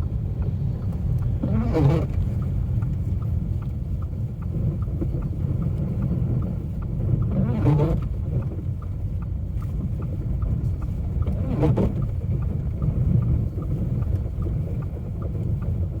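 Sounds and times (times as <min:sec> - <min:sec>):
car driving low rumble: 0:00.0 - 0:16.0
light regular ticking: 0:00.3 - 0:16.0.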